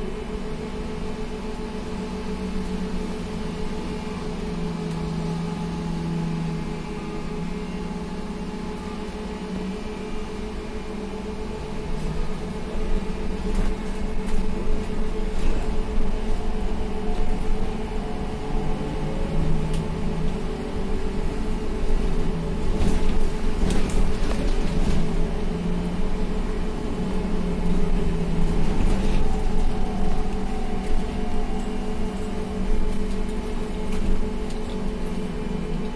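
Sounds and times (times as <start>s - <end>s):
road rumble: 0.0s - 35.9s
trolleybus electrical hum: 0.0s - 35.9s.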